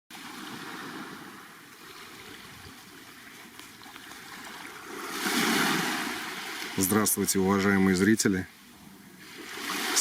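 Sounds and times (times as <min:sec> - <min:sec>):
waves washing onto shore: 0:00.1 - 0:10.0.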